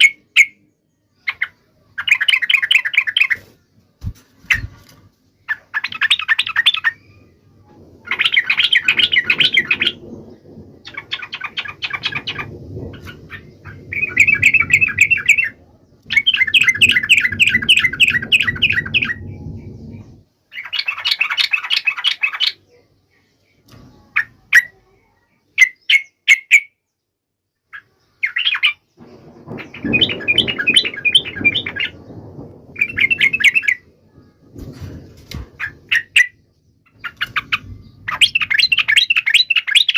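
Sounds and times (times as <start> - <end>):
bird chattering song: 0.0 - 3.5, 5.4 - 7.4, 8.0 - 27.0, 27.6 - 33.9, 35.4 - 39.9.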